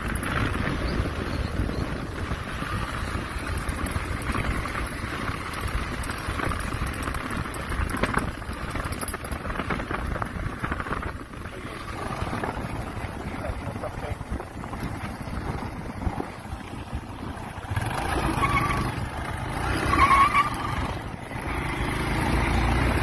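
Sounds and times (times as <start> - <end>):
wind buffeting microphone: 0.0 - 19.9
motorcycle engine running: 0.0 - 23.0.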